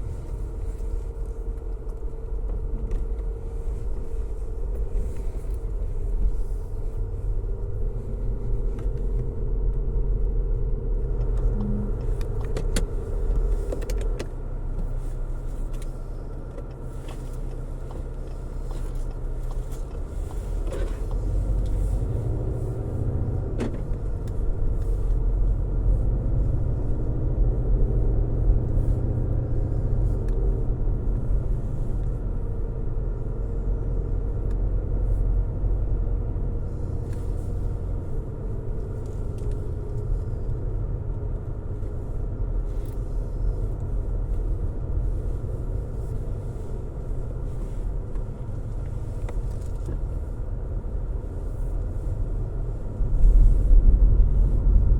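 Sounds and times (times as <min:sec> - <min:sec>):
tyre and engine rumble: 0:00.0 - 0:54.9.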